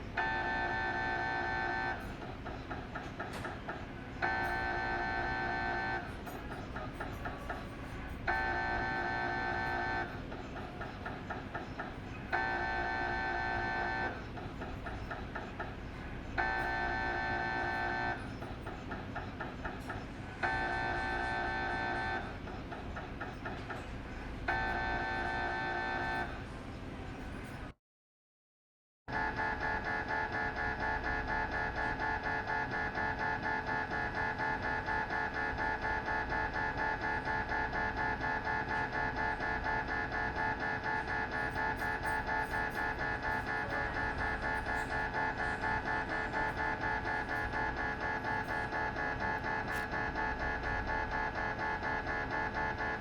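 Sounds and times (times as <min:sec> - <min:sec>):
mri scanner rapid tapping: 0:00.0 - 0:26.4, 0:29.1 - 0:53.0
mri scanner buzzing: 0:00.0 - 0:27.7, 0:29.1 - 0:53.0.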